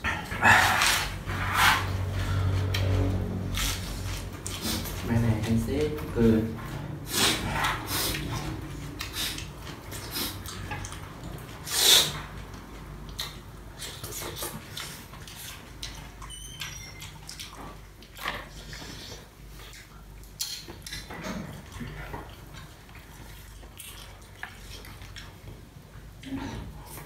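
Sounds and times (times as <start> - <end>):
man chewing and smacking lips: 2.5 - 6.1, 7.1 - 27.0.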